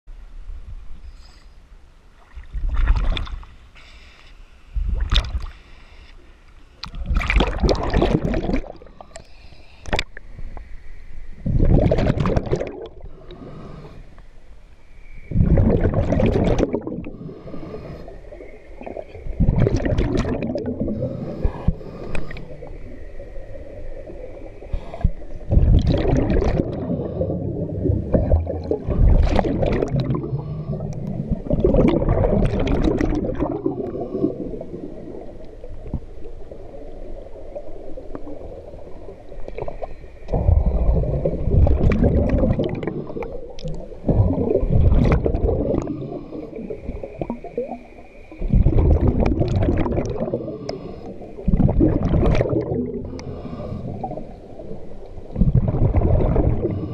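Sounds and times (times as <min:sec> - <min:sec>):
underwater exhaled bubbles gurgling: 0:04.8 - 0:05.5, 0:06.8 - 0:09.3, 0:11.4 - 0:14.0, 0:15.2 - 0:56.9.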